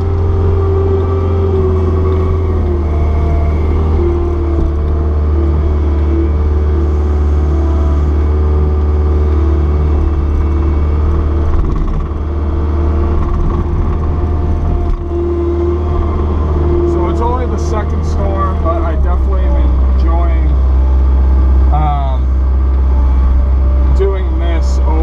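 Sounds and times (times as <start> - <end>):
diesel engine droning with whine: 0.0 - 25.0.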